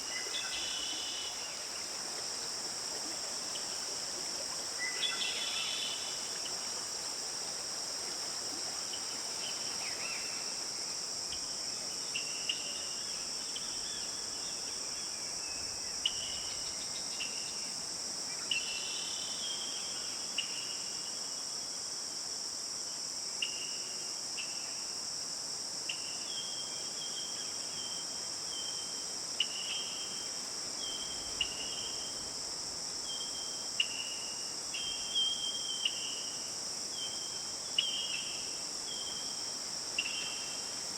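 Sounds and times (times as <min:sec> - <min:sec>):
chorus of crickets: 0:00.0 - 0:40.9.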